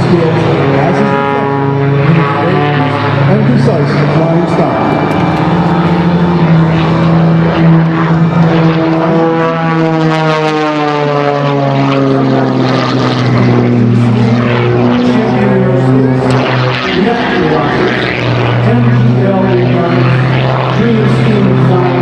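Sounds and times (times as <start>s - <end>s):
propeller plane engine buzzing: 0.0s - 22.0s.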